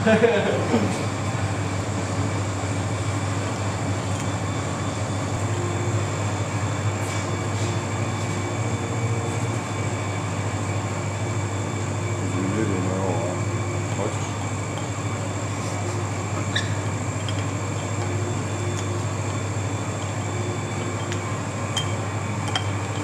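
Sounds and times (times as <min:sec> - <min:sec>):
faint high whine: 0:00.4 - 0:23.0.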